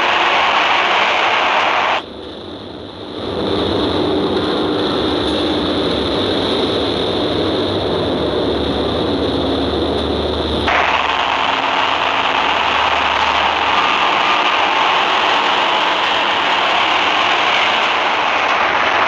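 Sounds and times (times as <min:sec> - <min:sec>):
machine running with low hum: 0:00.0 - 0:19.0
machine running with rushing hiss: 0:00.0 - 0:19.0.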